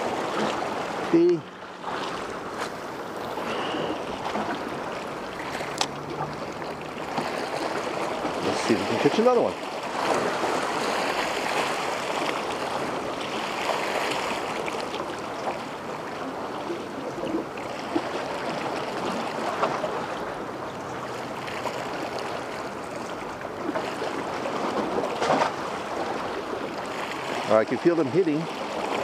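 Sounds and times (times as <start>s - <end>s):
waves lapping at shore: 0.0s - 29.0s.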